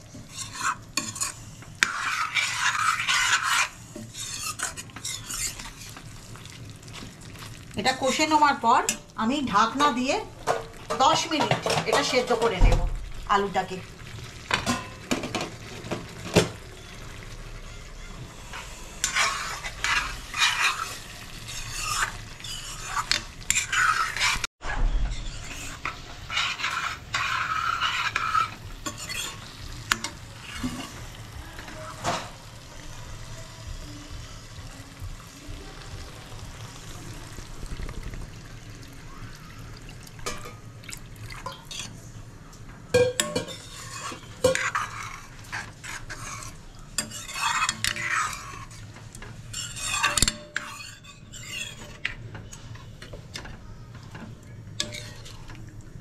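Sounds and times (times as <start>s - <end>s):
steel ladle scraping a pan: 0.0s - 12.6s, 14.4s - 33.4s, 41.4s - 42.1s, 42.9s - 55.8s
low sizzle: 0.0s - 56.0s.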